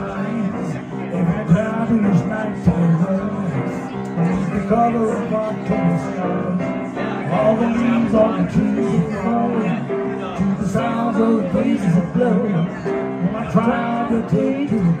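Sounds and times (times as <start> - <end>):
grand piano playing slow chords: 0.0 - 15.0.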